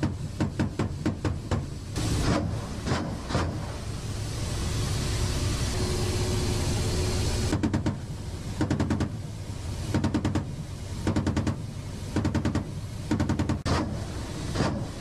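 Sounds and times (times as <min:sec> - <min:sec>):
helicopter rotor and engines: 0:00.0 - 0:15.0.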